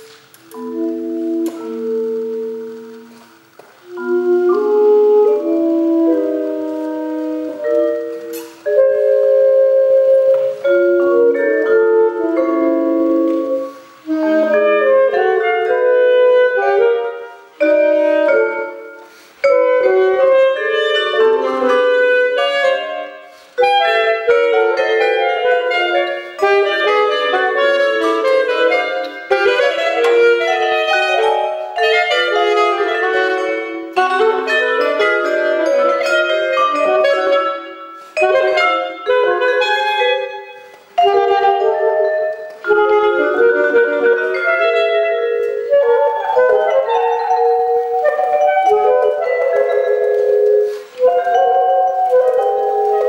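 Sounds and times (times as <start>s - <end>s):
alto saxophone: 0.0s - 53.0s
vibraphone chords: 0.0s - 53.0s.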